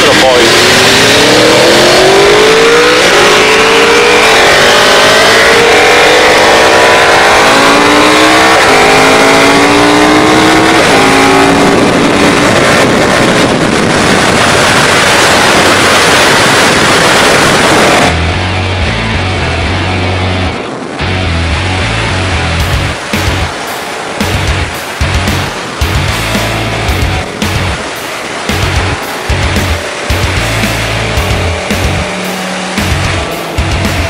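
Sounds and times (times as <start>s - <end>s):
wind rush on microphone: 0.0s - 18.6s, 19.5s - 32.2s
motorcycle engine accelerating: 0.0s - 34.0s.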